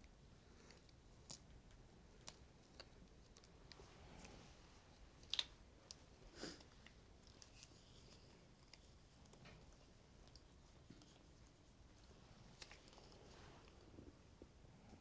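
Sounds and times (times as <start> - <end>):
soft rustle: 0.3 - 15.0.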